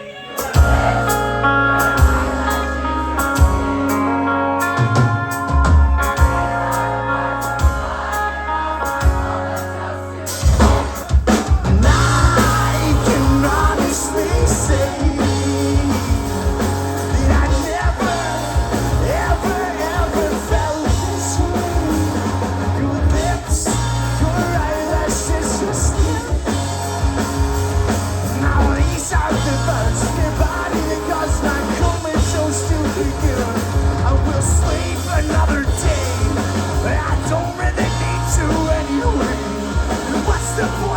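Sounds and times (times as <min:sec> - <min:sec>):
rock band playing: 0:00.3 - 0:40.9.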